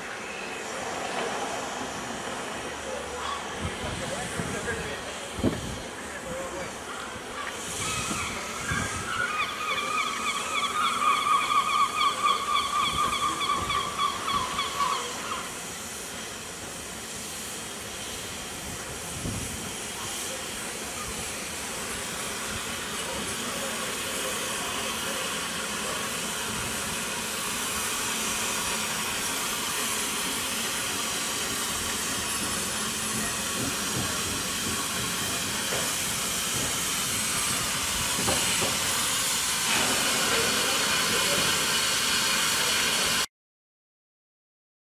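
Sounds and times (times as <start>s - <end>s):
steam hissing: 0.0s - 43.3s.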